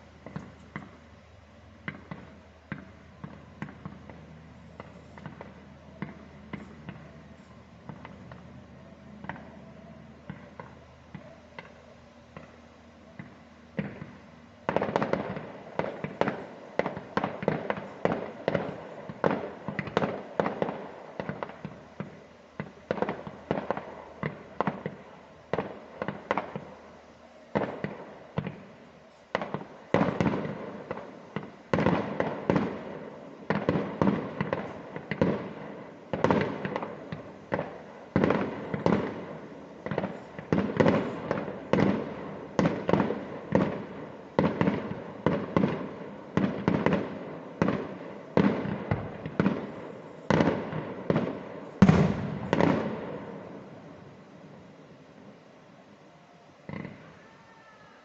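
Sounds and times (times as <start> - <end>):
fireworks exploding: 0.0 - 57.7.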